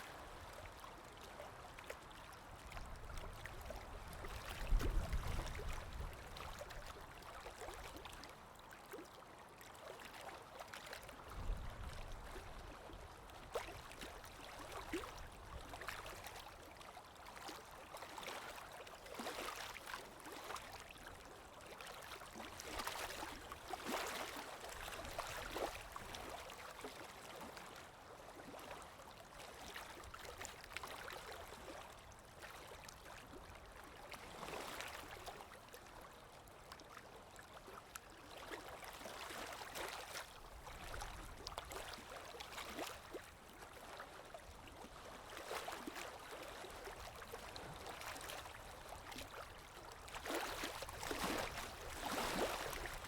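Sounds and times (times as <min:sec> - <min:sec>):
water lapping and splashing: 0:00.0 - 0:53.0
wind: 0:00.0 - 0:53.0.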